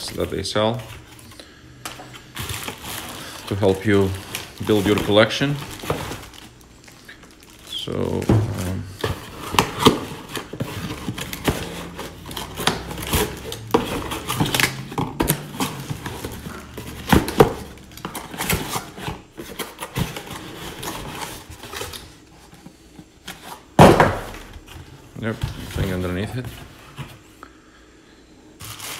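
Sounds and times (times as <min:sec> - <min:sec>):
hands handling cardboard box: 0:00.0 - 0:27.2.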